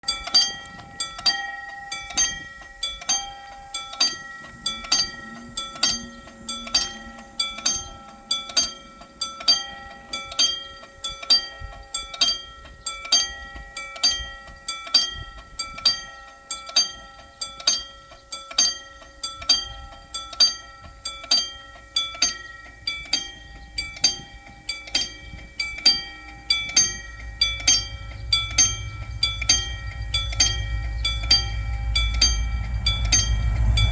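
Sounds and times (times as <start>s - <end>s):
railroad crossing bell ringing: 0.0s - 33.9s
train rumble: 0.0s - 33.9s.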